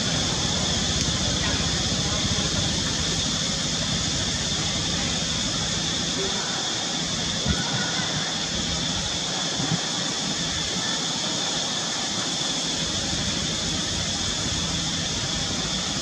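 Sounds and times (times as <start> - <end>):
even hiss: 0.0 - 16.0.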